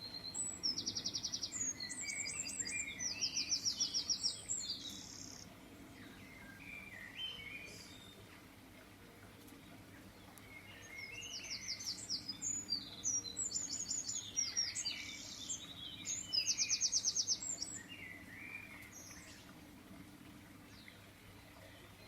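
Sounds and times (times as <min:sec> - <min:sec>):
songbirds trilling and chirping: 0:00.0 - 0:22.0.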